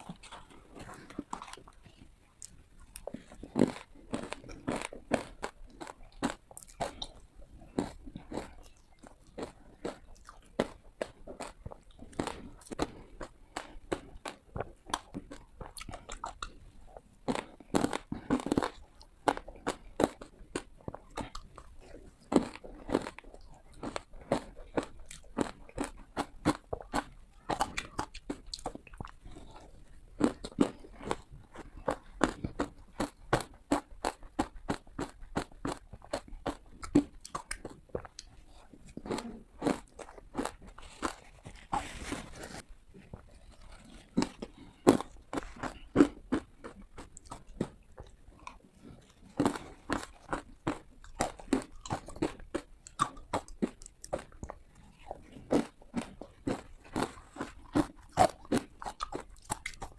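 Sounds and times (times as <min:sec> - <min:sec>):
chewing: 0:00.0 - 0:59.9
ice crunching between teeth: 0:00.0 - 0:59.9.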